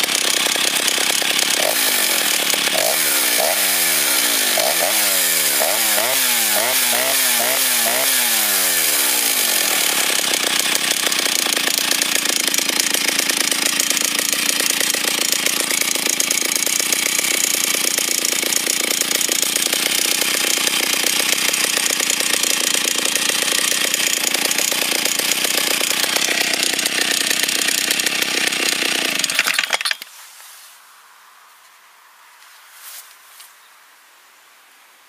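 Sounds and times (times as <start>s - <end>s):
chainsaw engine running: 0.0s - 30.0s.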